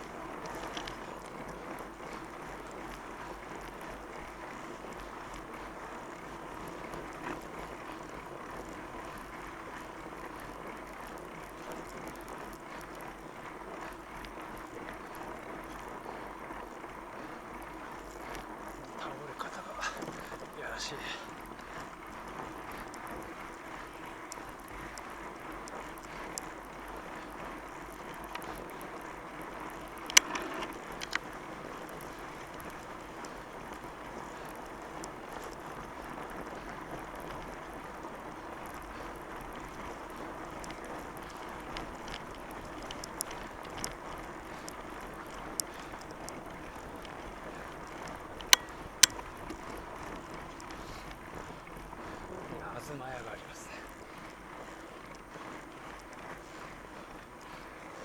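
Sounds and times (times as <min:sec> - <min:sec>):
sharp bike clicks: 0:00.0 - 0:19.0, 0:21.3 - 0:56.4
bike tyres rolling on wet snow: 0:00.0 - 0:58.0.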